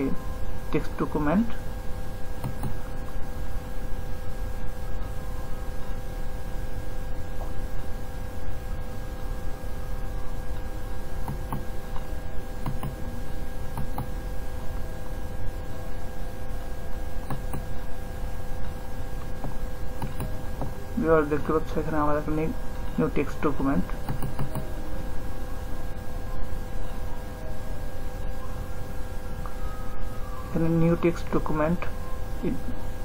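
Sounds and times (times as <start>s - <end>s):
electrical hum and hiss: 0.0s - 33.0s.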